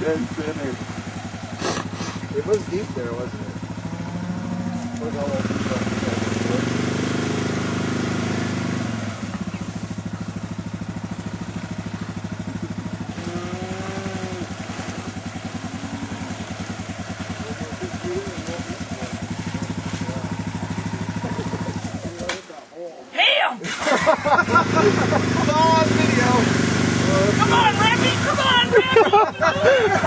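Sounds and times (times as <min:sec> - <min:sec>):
atv engine idling: 0:00.0 - 0:22.5, 0:23.6 - 0:30.0.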